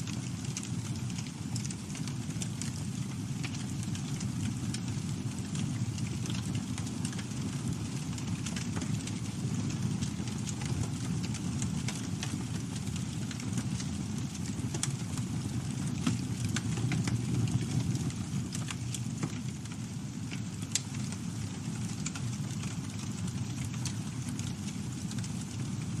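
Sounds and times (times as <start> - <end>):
burning wood crackling and popping: 0.0 - 26.0
fire rumbling: 0.0 - 26.0.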